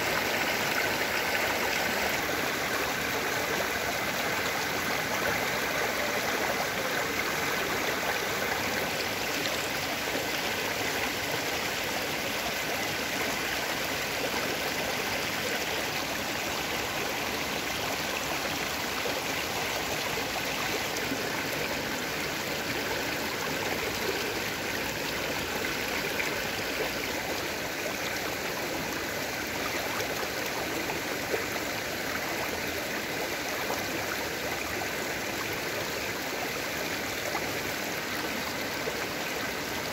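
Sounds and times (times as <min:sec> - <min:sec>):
stream rippling over stones: 0:00.0 - 0:39.9.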